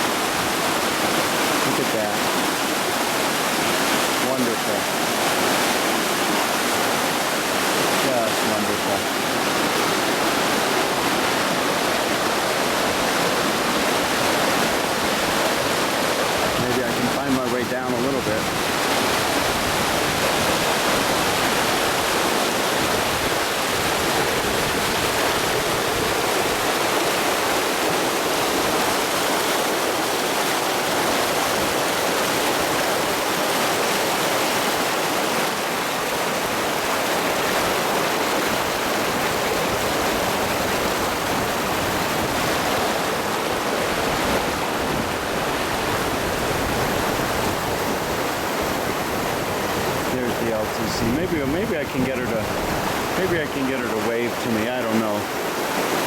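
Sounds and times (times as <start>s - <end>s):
stream pouring over waterfall: 0.0s - 56.0s.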